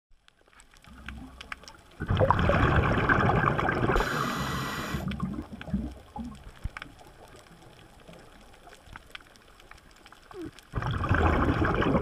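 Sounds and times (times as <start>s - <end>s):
underwater bubbles rushing and gurgling: 0.2s - 12.0s.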